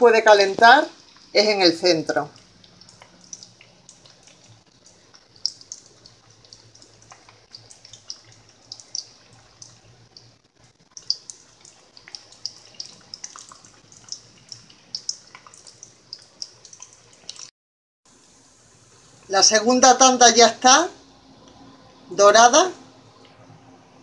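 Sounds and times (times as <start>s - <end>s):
croquettes frying in hot oil: 0.0s - 17.5s, 18.1s - 21.2s.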